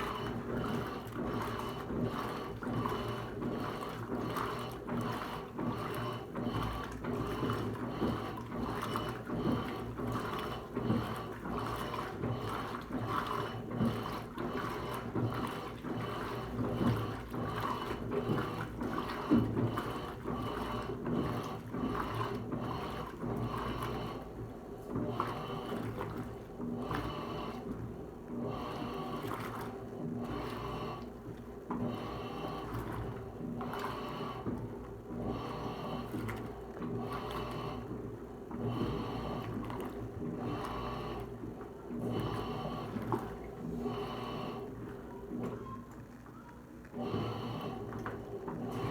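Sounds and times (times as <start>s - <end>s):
washing machine motor hum: 0.0s - 48.9s
water sloshing and churning: 0.0s - 48.9s.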